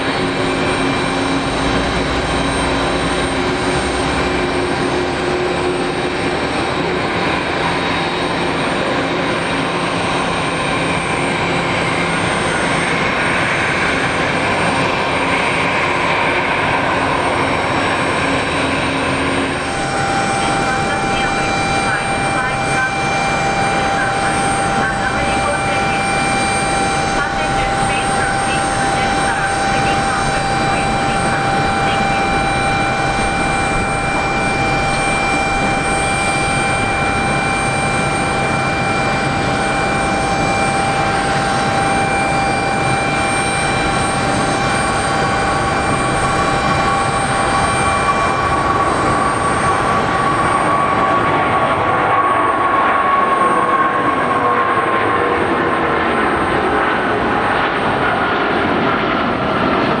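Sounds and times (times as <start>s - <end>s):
jet airliner taking off: 0.0s - 60.0s.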